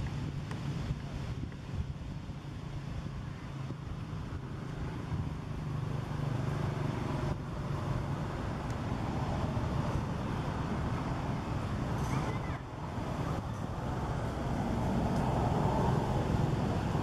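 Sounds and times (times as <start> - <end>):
low rumble of background noise: 0.0 - 17.0.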